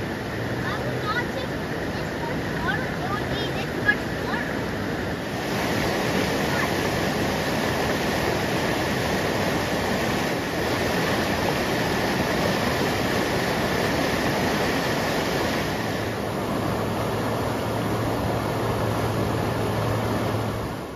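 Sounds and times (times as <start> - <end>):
floodwater rushing: 0.0 - 20.9
low steady hum: 0.0 - 20.9.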